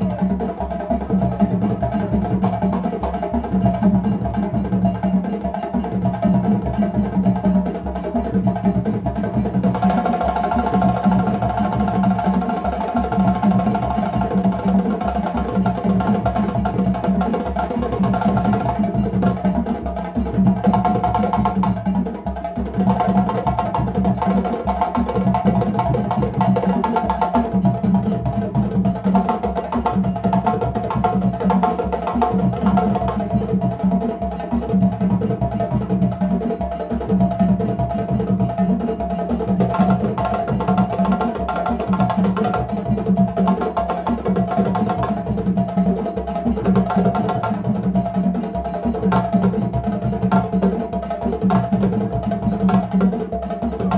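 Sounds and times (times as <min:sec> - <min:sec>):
hand drums playing: 0:00.0 - 0:53.9.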